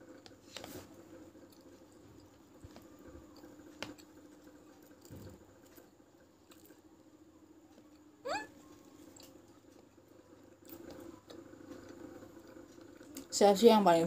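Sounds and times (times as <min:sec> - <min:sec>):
faint chewing: 0:00.0 - 0:06.9, 0:07.7 - 0:13.4.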